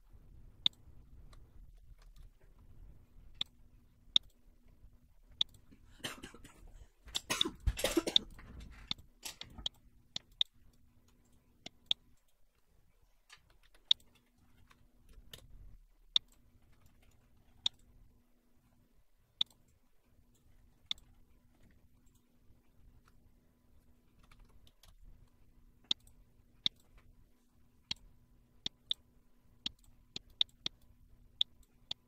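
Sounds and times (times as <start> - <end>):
mouse buttons clicking: 0.5 - 5.8, 8.2 - 12.4, 13.2 - 18.0, 19.4 - 23.2, 24.1 - 32.0.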